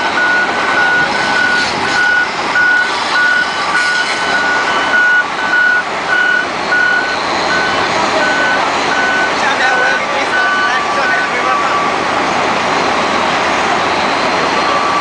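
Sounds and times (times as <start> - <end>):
reversing alarm beeping: 0.0 - 12.1, 13.8 - 15.0
heavy vehicle running: 0.0 - 15.0.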